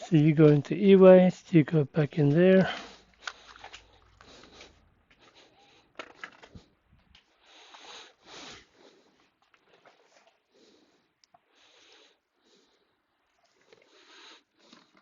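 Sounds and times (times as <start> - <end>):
soft breaths: 2.4 - 15.0.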